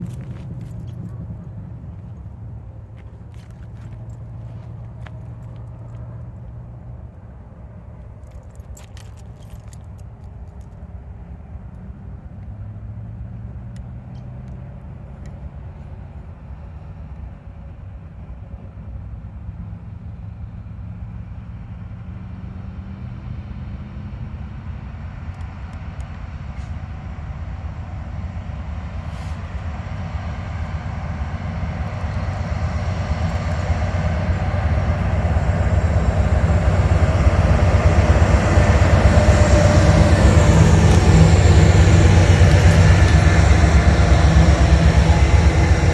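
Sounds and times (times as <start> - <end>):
diesel locomotive engines droning: 0.0 - 45.9.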